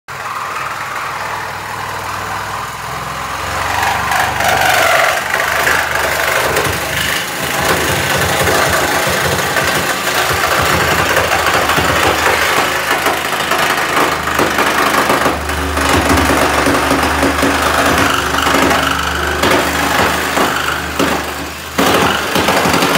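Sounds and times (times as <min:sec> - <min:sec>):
machinery running: 0:00.1 - 0:22.9
clattering knocks: 0:04.1 - 0:22.9.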